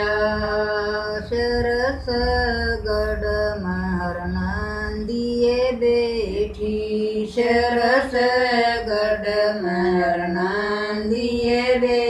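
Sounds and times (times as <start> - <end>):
elderly women singing folk chant: 0.0 - 12.0.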